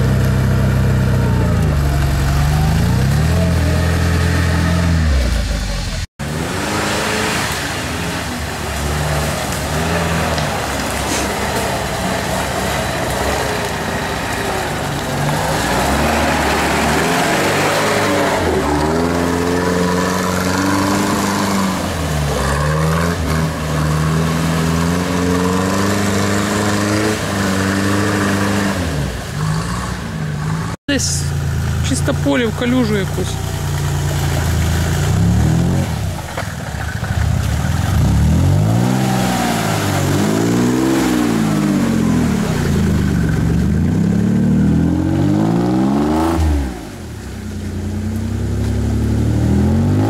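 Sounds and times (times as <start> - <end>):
off-road vehicle engine revving: 0.0 - 50.0.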